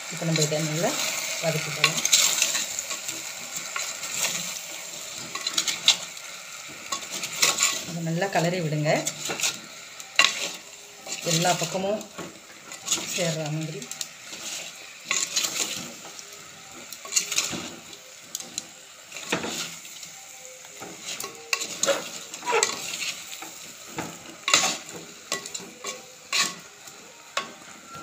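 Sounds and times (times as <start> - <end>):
oil sizzling: 0.0 - 28.0.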